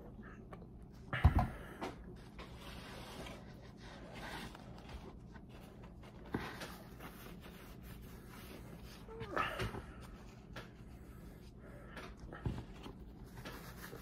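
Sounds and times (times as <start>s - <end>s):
soft rustling and handling: 1.8s - 14.0s.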